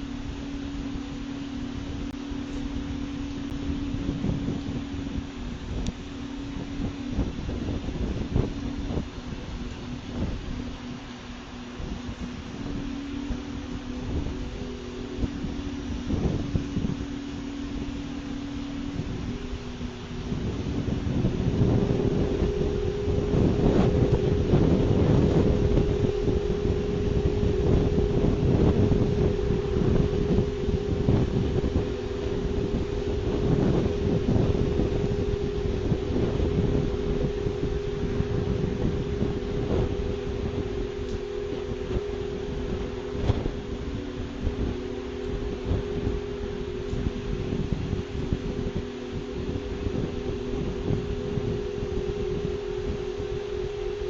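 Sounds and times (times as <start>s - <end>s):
rumbling background: 0.0s - 54.0s
steady humming tone: 0.0s - 54.0s
wind noise on microphone: 0.0s - 54.0s.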